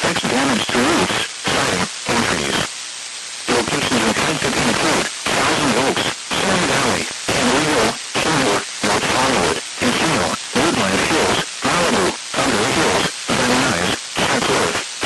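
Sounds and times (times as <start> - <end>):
person reading a broadcast: 0.0 - 15.0
radio static hiss: 0.0 - 15.0.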